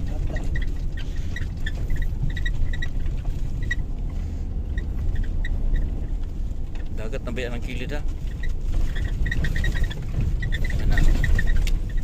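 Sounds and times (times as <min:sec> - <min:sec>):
short high squeaks: 0:00.0 - 0:06.1, 0:08.2 - 0:12.0
vehicle engine rumbling: 0:00.0 - 0:12.0.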